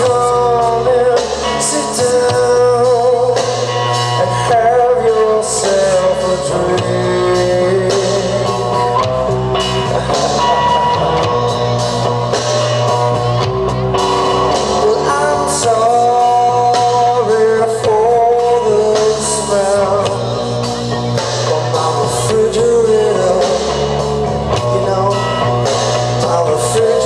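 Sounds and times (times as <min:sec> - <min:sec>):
person singing: 0:00.0 - 0:11.8, 0:13.4 - 0:27.0
drums: 0:00.0 - 0:27.0
electric guitars: 0:00.0 - 0:27.0.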